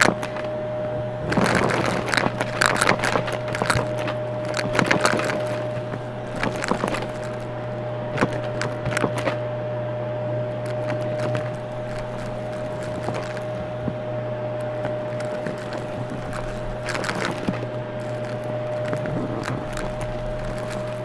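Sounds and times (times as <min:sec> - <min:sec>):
debris crackling in vacuum: 0:00.0 - 0:21.0
vacuum cleaner motor humming: 0:00.0 - 0:21.0.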